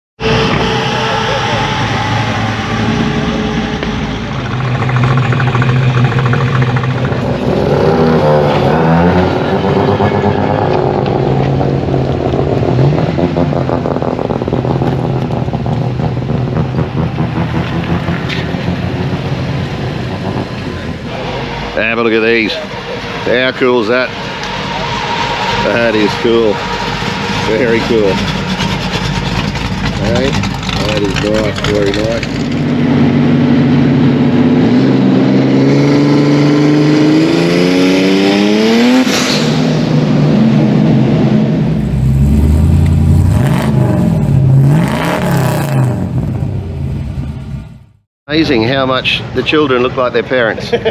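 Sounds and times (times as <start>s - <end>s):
car engine running: 0.2s - 35.6s, 39.5s - 48.0s.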